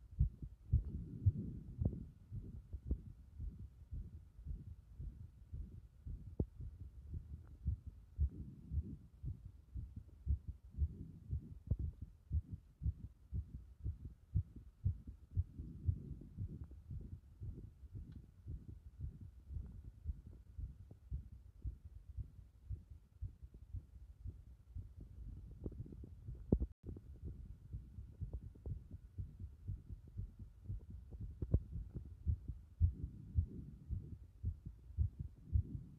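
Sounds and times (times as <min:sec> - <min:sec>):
heartbeat thumps: 0:00.0 - 0:35.9.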